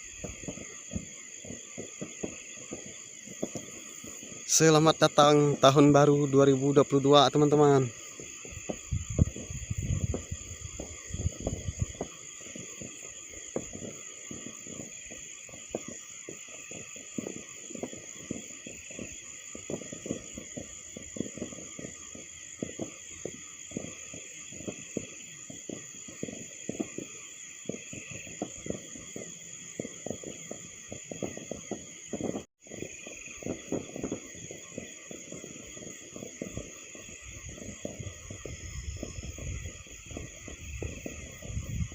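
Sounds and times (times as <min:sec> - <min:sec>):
crickets and night insects: 0:00.0 - 0:41.9
distant fireworks popping and banging: 0:00.0 - 0:41.9.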